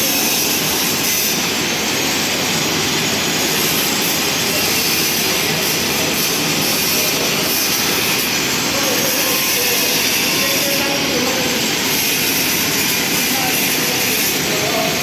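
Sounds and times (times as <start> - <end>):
welding arc hissing: 0.0 - 15.0.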